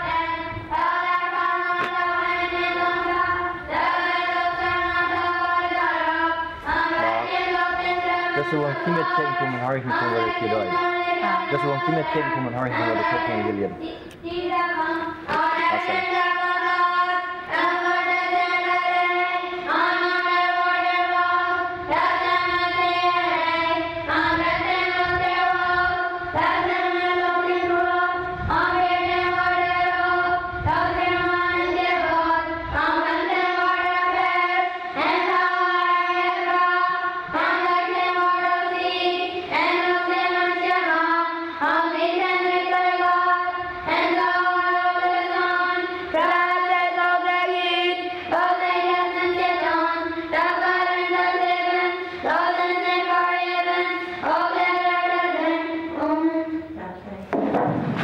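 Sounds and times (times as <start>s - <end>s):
children singing in unison: 0.0s - 56.8s.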